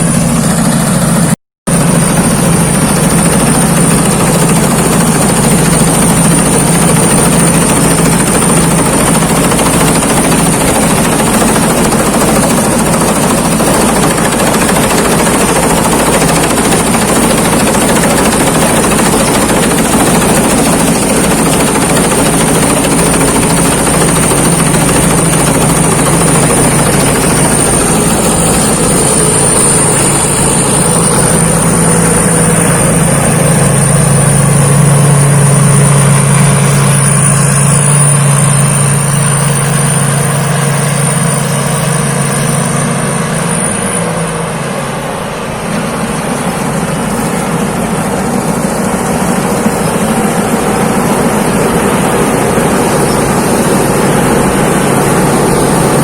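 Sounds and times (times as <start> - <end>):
combine harvester engine drone: 0.0 - 56.0
high whine: 0.0 - 56.0.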